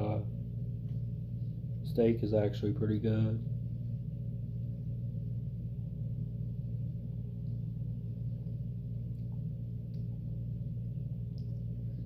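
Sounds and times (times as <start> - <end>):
low hum with overtones: 0.0 - 12.0.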